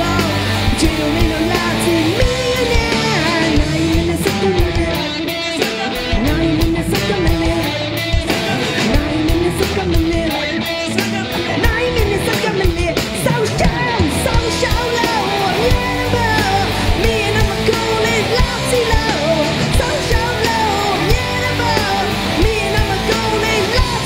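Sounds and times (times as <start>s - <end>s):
electric guitar: 0.0s - 24.0s
live rock band playing: 0.0s - 24.0s
woman singing: 0.0s - 24.0s.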